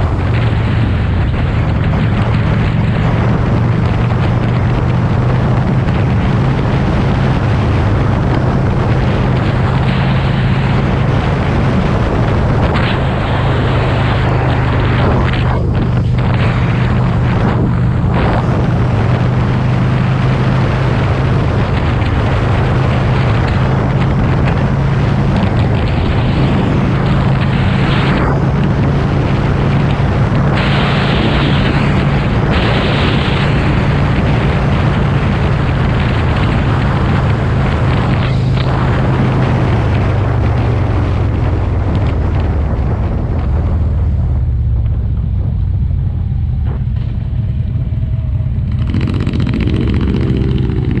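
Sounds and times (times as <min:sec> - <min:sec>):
motorcycle engine running: 0:00.0 - 0:51.0
wind buffeting microphone: 0:00.0 - 0:51.0.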